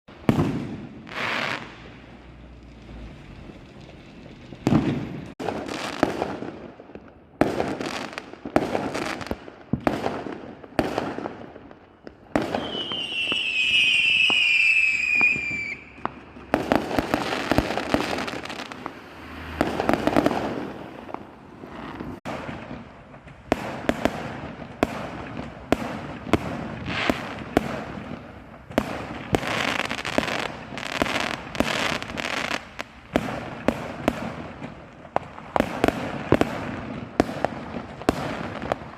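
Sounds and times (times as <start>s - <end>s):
fireworks bangs and crackling: 0.1s - 38.9s
whistling firework: 0.1s - 38.9s.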